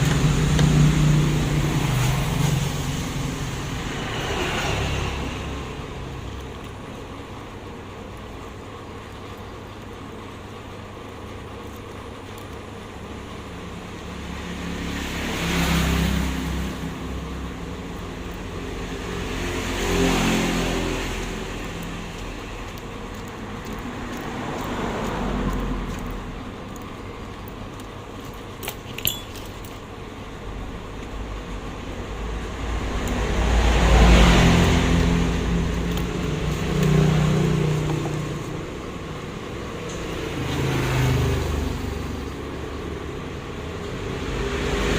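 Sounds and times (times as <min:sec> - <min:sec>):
road vehicles passing: 0:00.0 - 0:11.6, 0:12.6 - 0:44.9.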